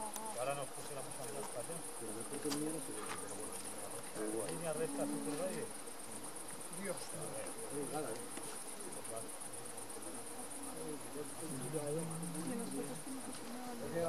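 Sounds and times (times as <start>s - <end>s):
faint low murmur: 0.0s - 14.0s
insects chirring: 0.0s - 14.0s.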